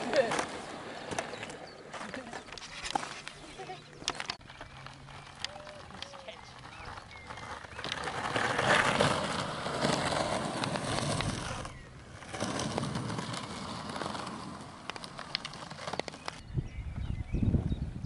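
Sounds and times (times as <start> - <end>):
skateboard wheels rolling on dirt: 0.0 - 18.0.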